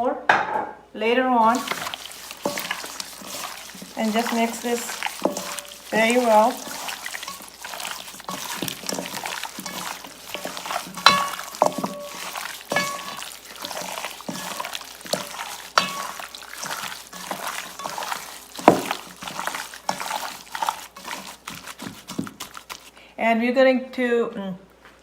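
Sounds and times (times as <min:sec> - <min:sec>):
wet squelches of mixing meat: 0:01.4 - 0:23.1.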